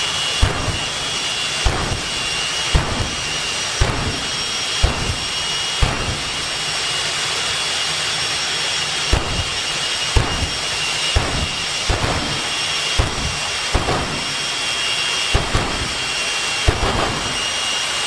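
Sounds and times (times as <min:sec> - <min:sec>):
jet engine roar with high whine: 0:00.0 - 0:18.0.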